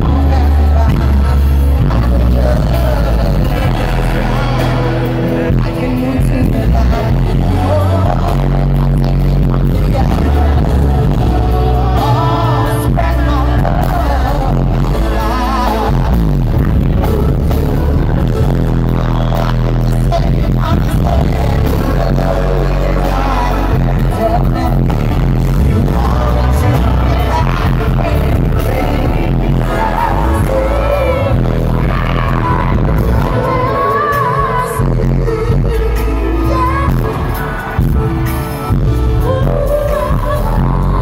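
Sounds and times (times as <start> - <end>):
heavy bass line: 0.0 - 41.0
live band music: 0.0 - 41.0
man singing into a microphone: 0.0 - 41.0.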